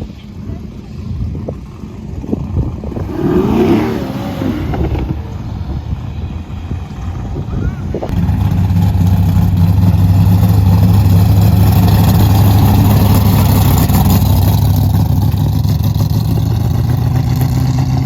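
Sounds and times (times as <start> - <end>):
car engine running: 2.8 - 7.4, 8.0 - 18.0.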